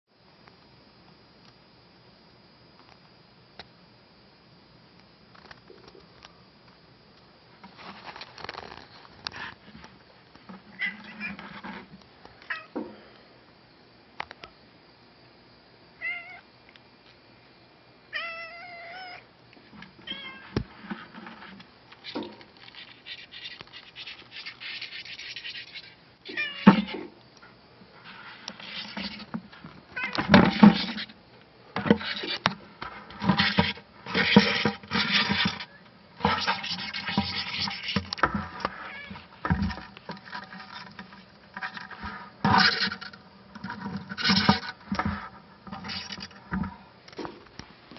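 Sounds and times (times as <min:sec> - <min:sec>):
beetles stridulating: 0:00.6 - 0:47.6.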